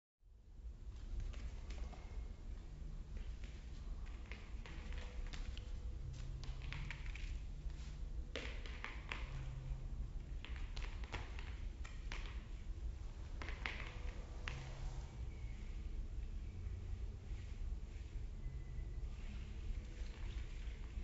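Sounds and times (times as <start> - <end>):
steady low hum: 0.2 - 21.0.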